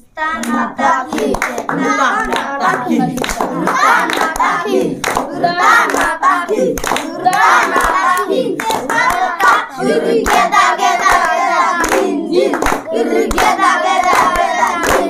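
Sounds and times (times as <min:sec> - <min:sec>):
boys chanting in unison: 0:00.0 - 0:15.0
hands clapping a beat: 0:00.4 - 0:15.0.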